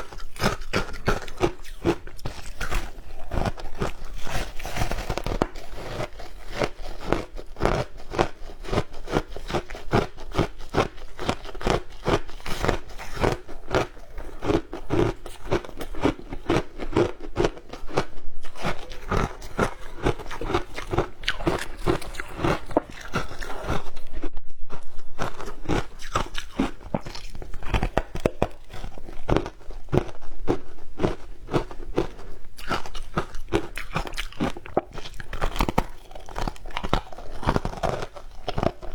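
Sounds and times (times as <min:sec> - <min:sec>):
person chewing crunchy ice: 0:00.0 - 0:38.9.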